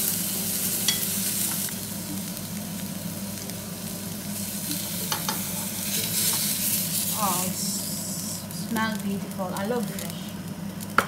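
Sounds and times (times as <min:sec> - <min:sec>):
fish sizzling in a frying pan: 0:00.0 - 0:11.0
low steady hum: 0:00.0 - 0:11.0.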